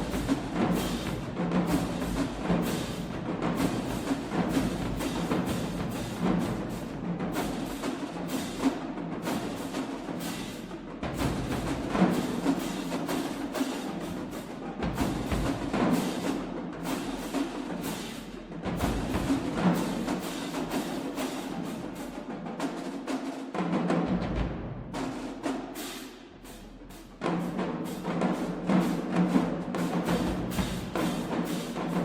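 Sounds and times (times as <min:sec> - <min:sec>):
marching drumline playing: 0:00.0 - 0:32.0.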